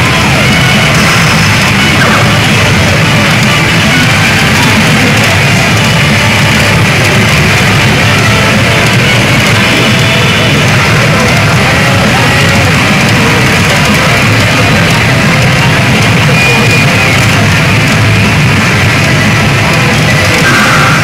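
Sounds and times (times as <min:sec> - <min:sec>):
rock music with guitar: 0:00.0 - 0:21.0.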